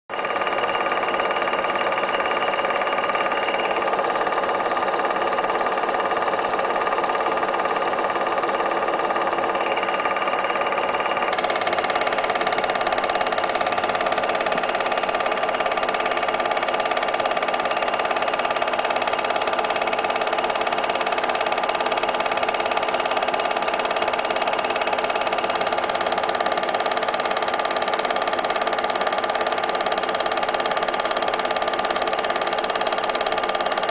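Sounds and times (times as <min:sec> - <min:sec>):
film projector whirring: 0:00.1 - 0:33.9.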